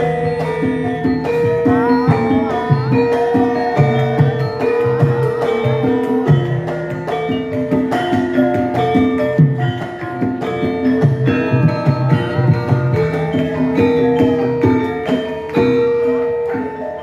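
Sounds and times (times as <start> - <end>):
metallophones and gongs: 0.0 - 17.0.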